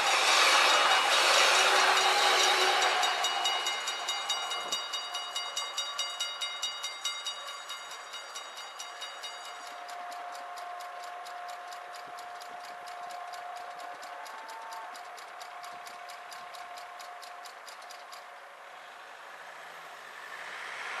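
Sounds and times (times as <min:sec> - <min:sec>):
level crossing warning bell: 0:00.0 - 0:18.2.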